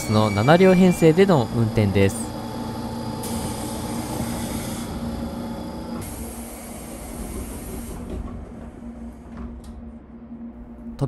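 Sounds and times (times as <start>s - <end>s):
electric train hum: 0.0s - 11.0s.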